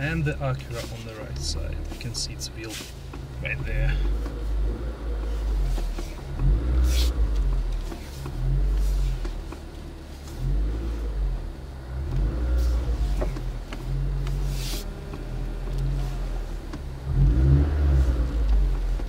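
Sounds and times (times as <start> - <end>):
car engine rumbling at low revs: 0.0 - 19.0.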